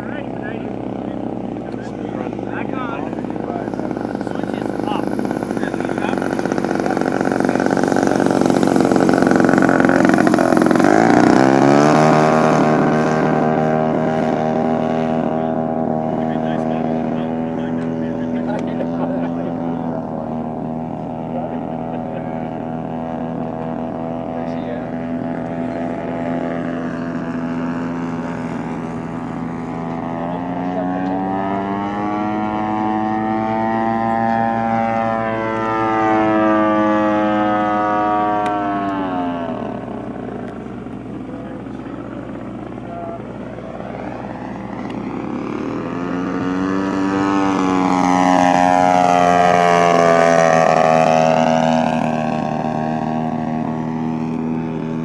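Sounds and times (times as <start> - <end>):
model plane engine at full throttle: 0.0 - 55.0.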